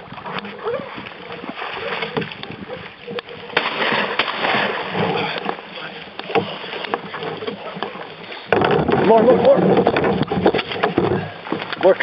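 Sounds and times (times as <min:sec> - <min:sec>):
water splashing around canoe: 0:00.0 - 0:12.0
knocks against hull: 0:01.9 - 0:12.0.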